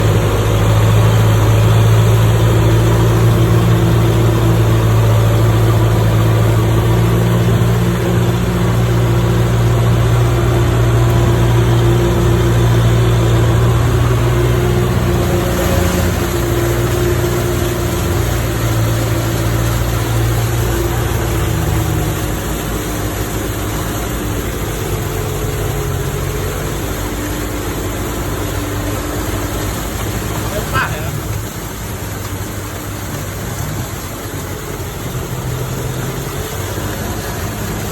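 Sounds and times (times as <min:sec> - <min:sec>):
tractor diesel engine drone: 0:00.0 - 0:37.9.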